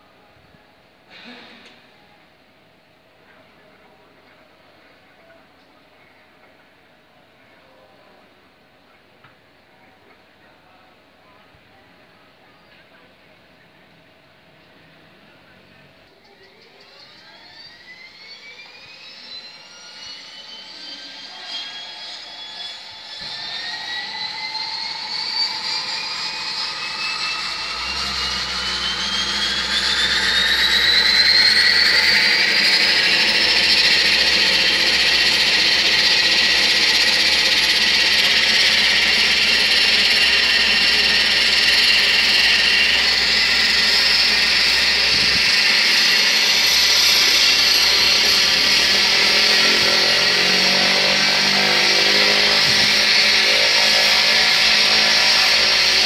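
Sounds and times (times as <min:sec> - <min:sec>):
turboprop engine whine: 0:00.0 - 0:56.0.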